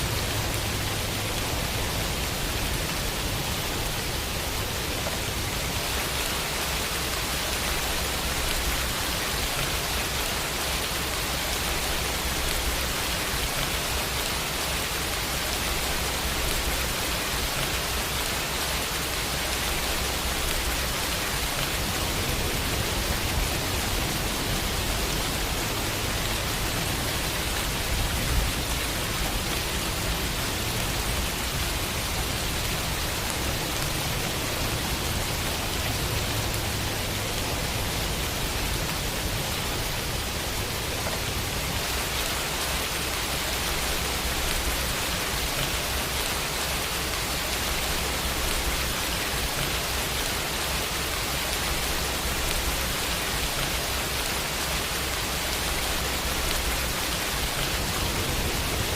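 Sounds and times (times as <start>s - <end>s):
rain pattering on a window: 0.0s - 58.9s.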